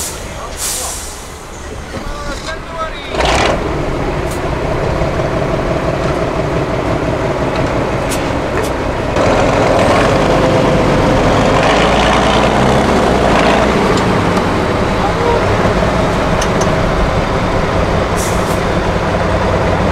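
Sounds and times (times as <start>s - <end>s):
diesel truck engine under load: 0.0s - 19.9s.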